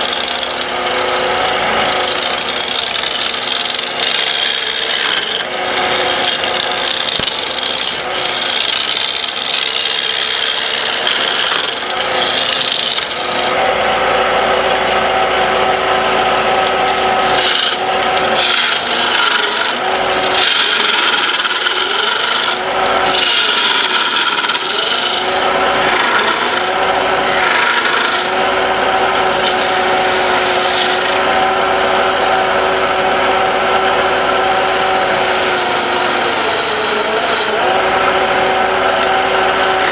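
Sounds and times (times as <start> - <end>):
machine hum: 0.0 - 39.9
tool scraping spinning wood: 0.0 - 39.9.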